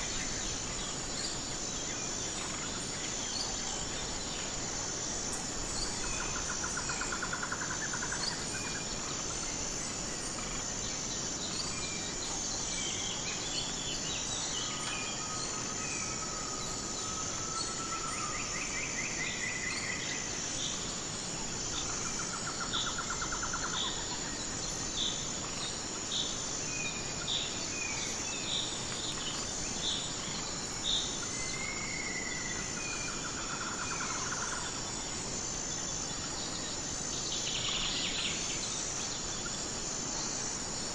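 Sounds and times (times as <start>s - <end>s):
insect chorus: 0.0s - 40.9s.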